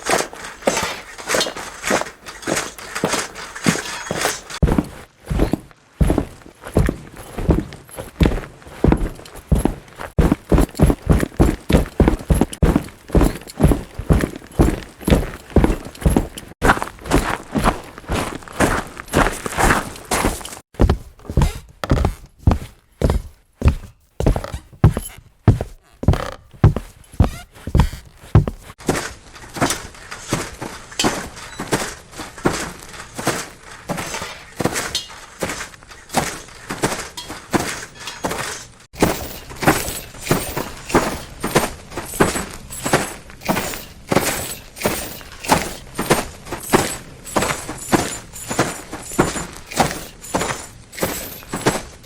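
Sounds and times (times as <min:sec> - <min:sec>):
armor and chainmail jingling: 0:00.0 - 0:20.7, 0:26.5 - 0:52.0
crunchy footsteps: 0:00.0 - 0:52.0.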